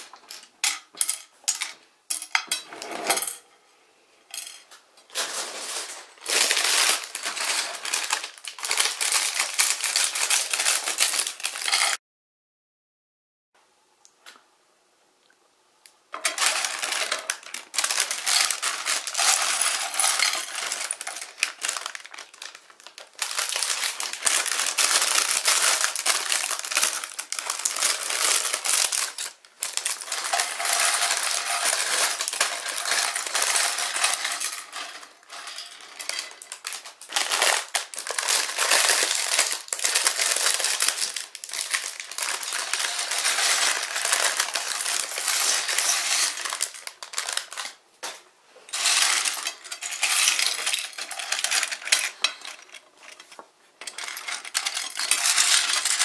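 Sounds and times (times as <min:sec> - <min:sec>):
plastic bricks clattering on plate: 0:04.3 - 0:12.0, 0:16.1 - 0:47.8, 0:48.7 - 0:56.0
plastic bags crinkling: 0:05.1 - 0:12.0, 0:16.2 - 0:56.0.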